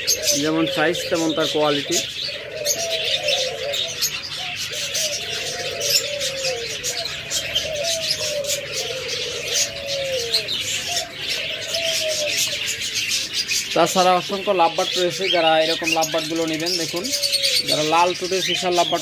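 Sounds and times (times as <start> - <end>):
doves cooing: 0.0 - 19.0
small birds chirping: 0.0 - 19.0.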